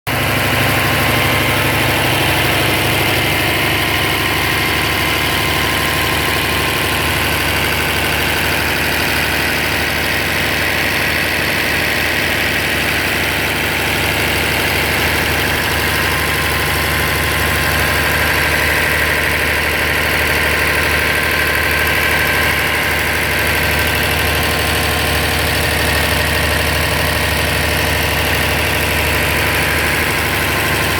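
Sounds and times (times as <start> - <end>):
engine idling: 0.1 - 30.9.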